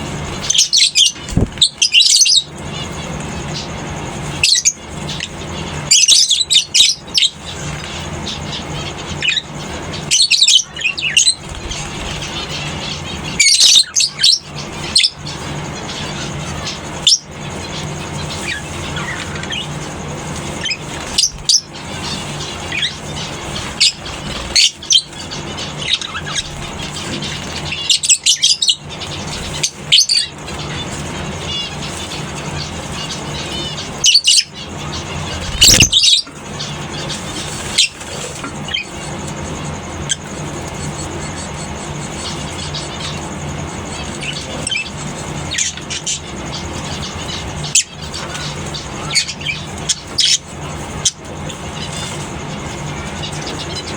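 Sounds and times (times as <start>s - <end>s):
lovebirds shrill chirps: 0.0s - 53.9s.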